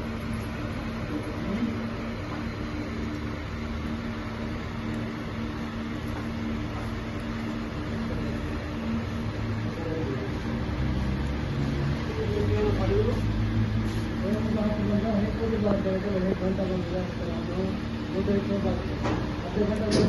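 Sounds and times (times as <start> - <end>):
mechanical hum with low tones: 0.0 - 20.0.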